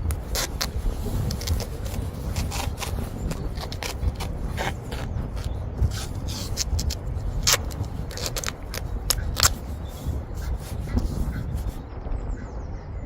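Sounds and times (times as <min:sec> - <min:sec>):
sharp scrapes and clicks: 0:00.0 - 0:11.8
low rumble: 0:00.0 - 0:13.0.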